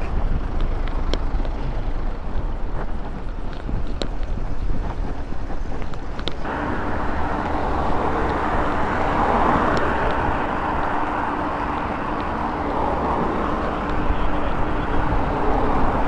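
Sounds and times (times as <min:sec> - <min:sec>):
bike rolling noise: 0:00.0 - 0:16.0
wind buffeting microphone: 0:00.0 - 0:16.0.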